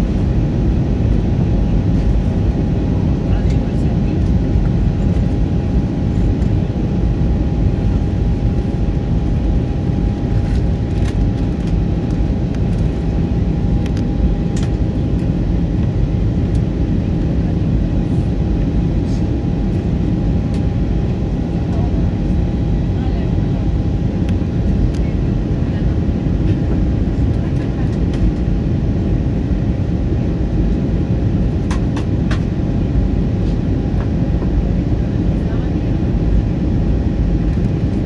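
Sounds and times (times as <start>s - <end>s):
airplane cabin rumble: 0.0s - 38.0s.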